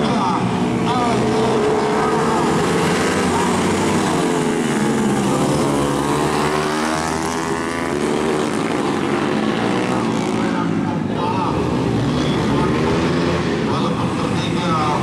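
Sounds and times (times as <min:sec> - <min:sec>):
motorcycle engines racing past: 0:00.0 - 0:15.0.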